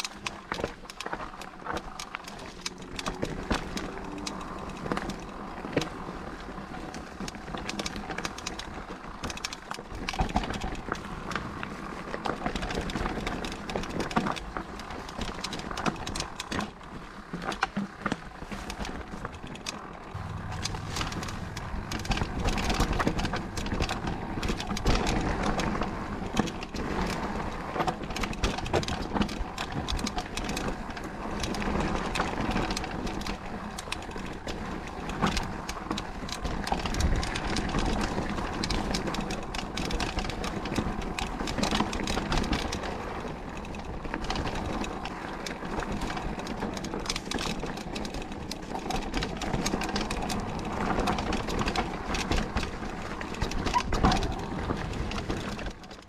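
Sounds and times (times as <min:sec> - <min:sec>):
bike rattling and knocking: 0:00.0 - 0:56.0
tyre and wind noise: 0:00.0 - 0:56.0.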